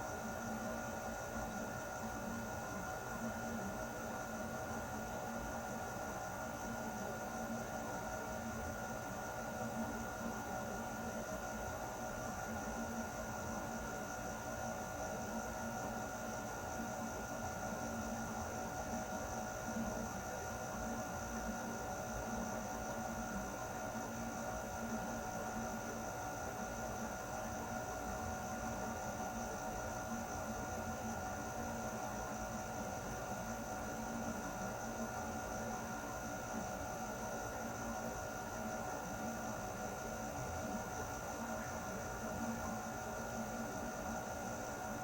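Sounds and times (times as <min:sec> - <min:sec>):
air conditioner running: 0:00.0 - 0:45.0.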